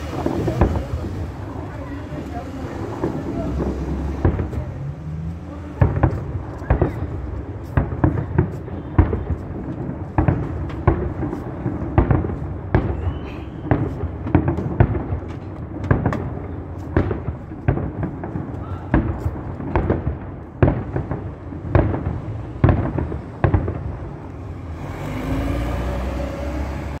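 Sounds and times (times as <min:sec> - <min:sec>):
rumbling crackle: 0:00.0 - 0:25.0.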